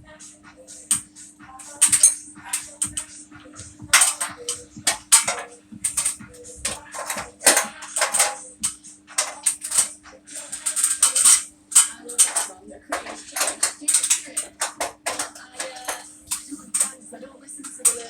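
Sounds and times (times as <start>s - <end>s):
steady low hum: 0.0s - 18.0s
metallic clinks of hand tools: 1.6s - 3.1s, 3.9s - 17.0s, 17.6s - 18.0s.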